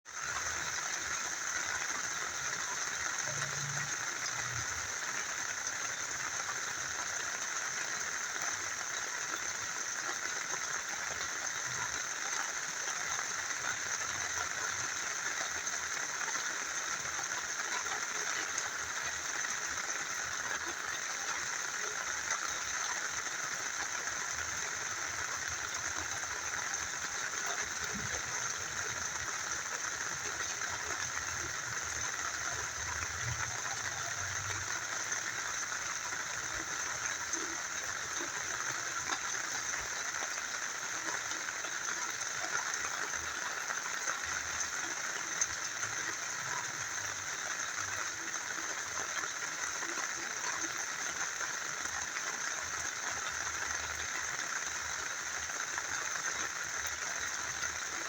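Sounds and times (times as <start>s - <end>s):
small river flowing: 0.0s - 58.0s.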